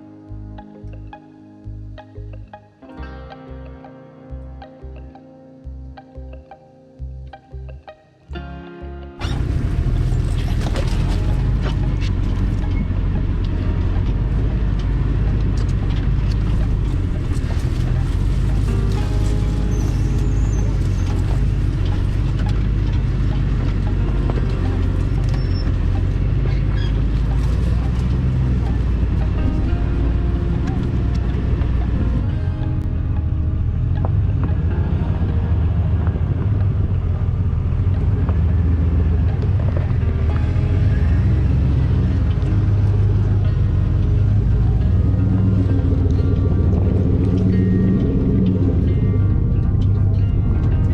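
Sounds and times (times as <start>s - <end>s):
pickup truck engine droning: 9.2s - 50.9s.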